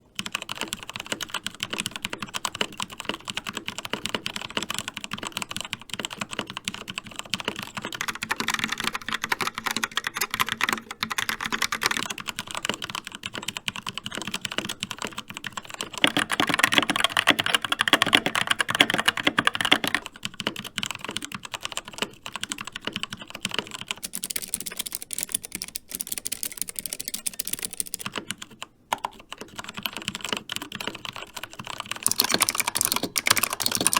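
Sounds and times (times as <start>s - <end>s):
fast typing on mechanical keyboard: 0.0s - 33.9s.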